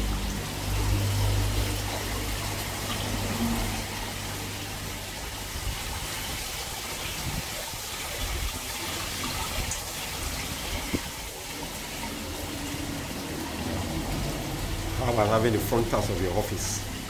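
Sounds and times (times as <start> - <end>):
waterfall splashing into pond: 0.0 - 17.0.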